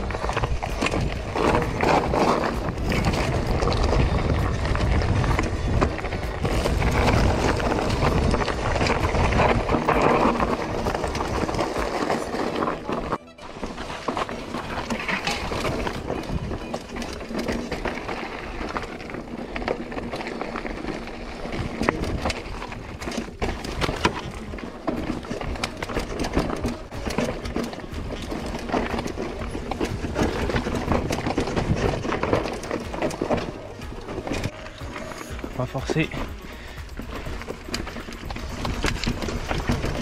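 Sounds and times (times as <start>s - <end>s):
bike frame and chain rattling: 0.0s - 40.0s
tyres crunching over gravel: 0.0s - 40.0s.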